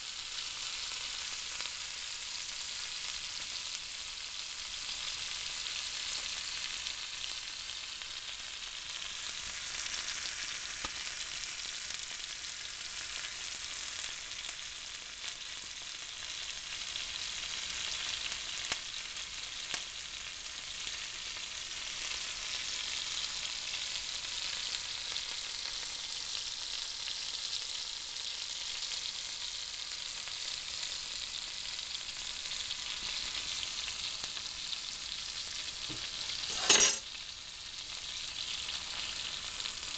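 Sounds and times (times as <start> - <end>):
steaks sizzling in a pan: 0.0 - 39.9.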